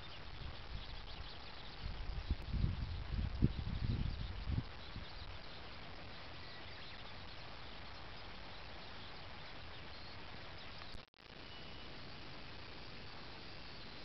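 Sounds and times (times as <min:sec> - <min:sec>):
rural ambience hiss: 0:00.0 - 0:14.0.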